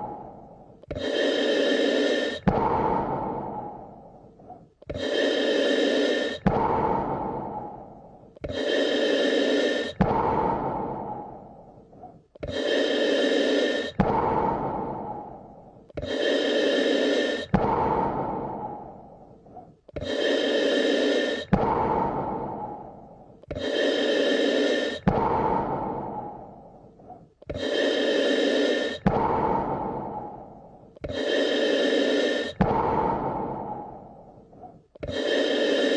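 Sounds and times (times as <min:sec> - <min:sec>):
slow human breathing: 0:00.0 - 0:35.9.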